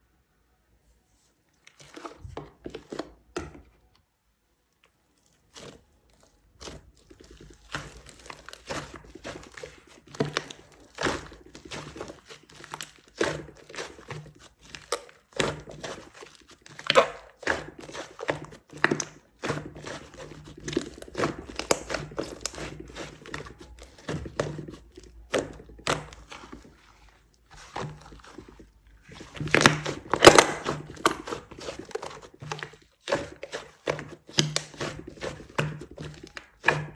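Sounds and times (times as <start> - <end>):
slime crackling and popping: 4.9 - 36.9.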